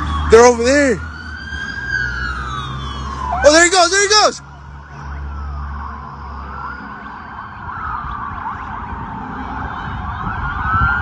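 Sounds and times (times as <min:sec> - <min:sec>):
police sirens wailing: 0:00.0 - 0:11.0.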